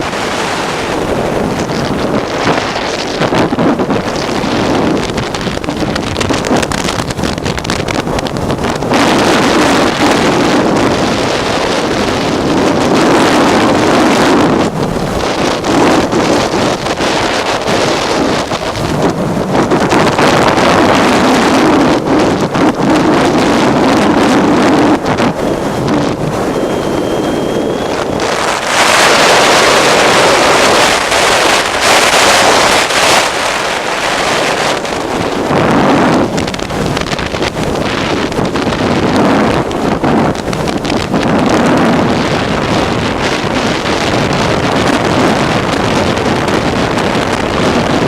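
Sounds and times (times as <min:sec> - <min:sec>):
wind rush on microphone: 0:00.0 - 0:48.0.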